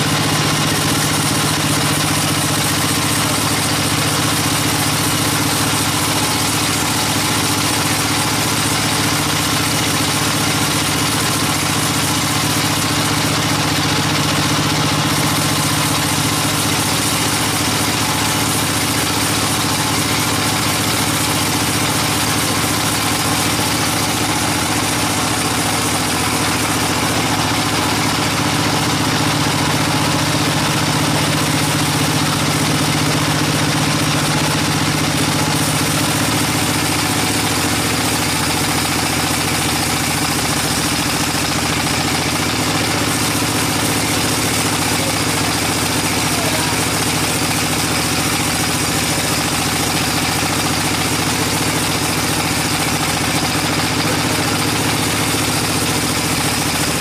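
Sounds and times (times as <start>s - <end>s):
band sawmill droning: 0.0s - 57.0s.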